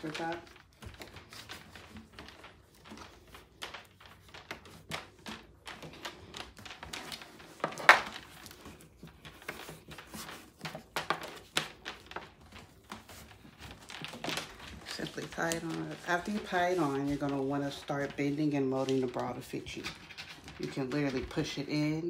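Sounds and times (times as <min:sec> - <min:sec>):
light clicks taps and rustles: 0:00.0 - 0:21.7.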